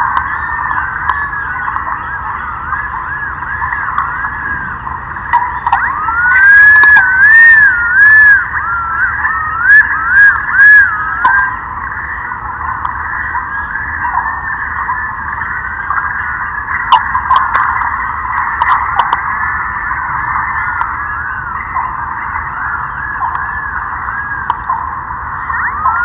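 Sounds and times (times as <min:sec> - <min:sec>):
bird looping whistled notes: 0:00.0 - 0:26.0
pigeons whistling calls: 0:00.0 - 0:26.0.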